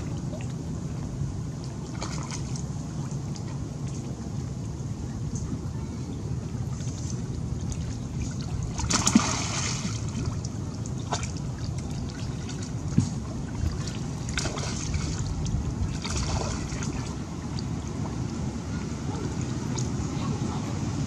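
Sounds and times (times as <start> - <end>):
steady low rumble: 0.0 - 21.0
water splashing and trickling: 0.0 - 21.0.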